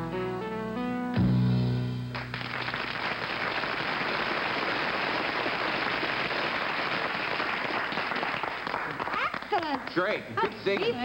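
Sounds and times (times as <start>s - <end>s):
studio audience applause: 2.1s - 11.0s.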